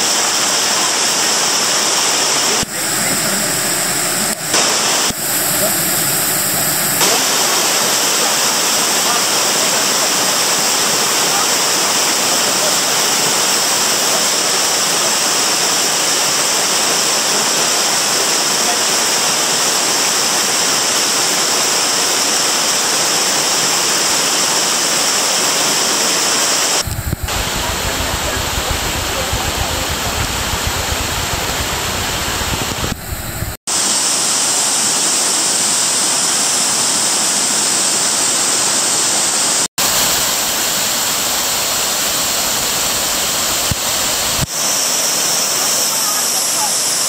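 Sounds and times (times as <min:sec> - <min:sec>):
rushing falling water: 0:00.0 - 0:47.0.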